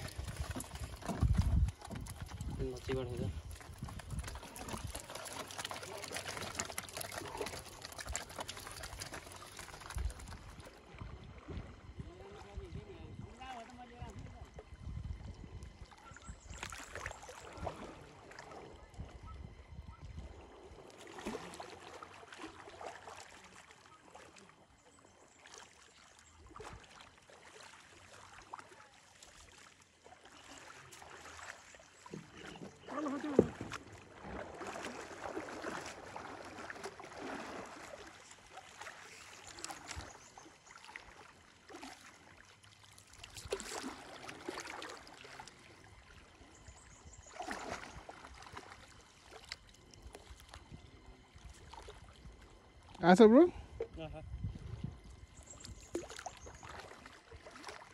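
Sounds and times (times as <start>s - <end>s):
water sloshing and splashing: 0.0s - 57.9s.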